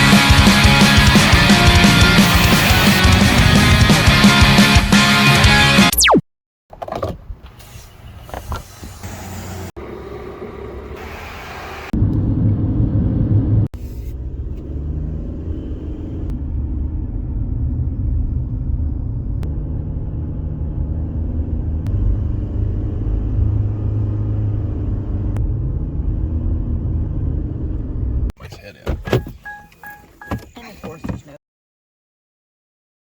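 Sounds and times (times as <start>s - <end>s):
car road and engine rumble: 0.0s - 4.8s, 6.7s - 31.4s.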